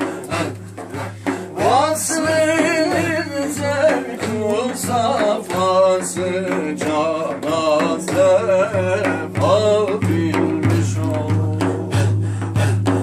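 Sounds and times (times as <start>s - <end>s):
men singing: 0.0s - 13.0s.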